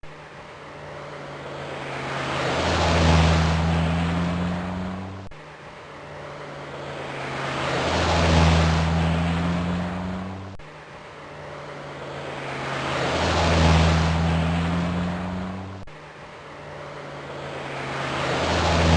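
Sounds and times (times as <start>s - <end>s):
car engine passing by: 0.0s - 18.9s.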